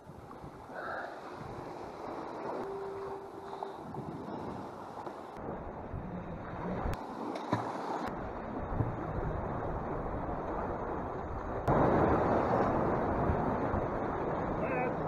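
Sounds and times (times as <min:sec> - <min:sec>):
sea surf washing against rocks: 0:00.0 - 0:15.0
wind buffeting microphone: 0:00.0 - 0:15.0.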